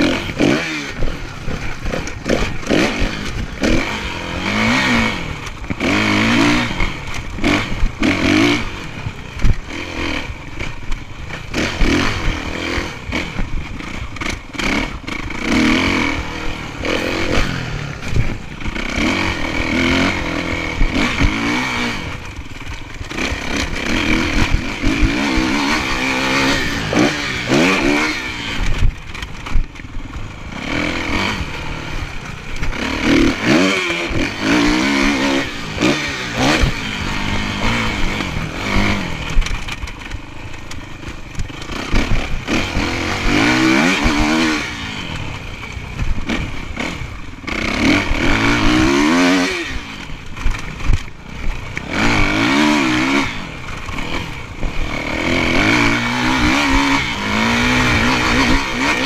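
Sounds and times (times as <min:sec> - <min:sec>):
bike knocks and rattles: 0:00.0 - 0:16.0, 0:16.8 - 0:59.0
dirt bike engine revving: 0:00.0 - 0:59.0.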